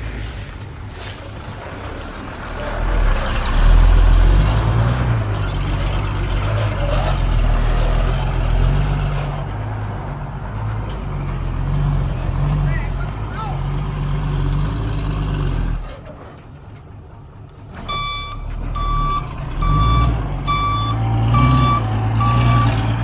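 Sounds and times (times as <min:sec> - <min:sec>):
heavy diesel engine under load: 0:00.0 - 0:23.0.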